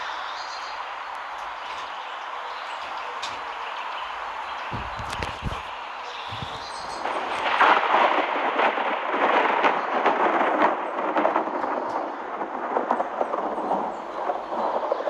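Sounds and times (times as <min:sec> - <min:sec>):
crackling patter of rapid impacts: 0:00.7 - 0:15.0.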